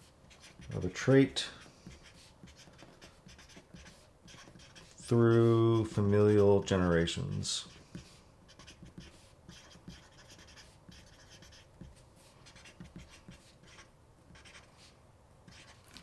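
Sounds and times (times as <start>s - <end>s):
marker writing on paper: 0.0s - 5.9s, 7.3s - 14.9s, 15.5s - 16.0s.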